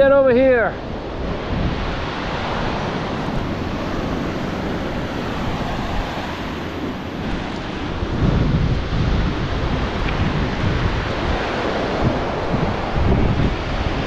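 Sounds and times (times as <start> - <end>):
ocean surf breaking on beach: 0.0 - 14.0
wind buffeting microphone: 0.0 - 14.0.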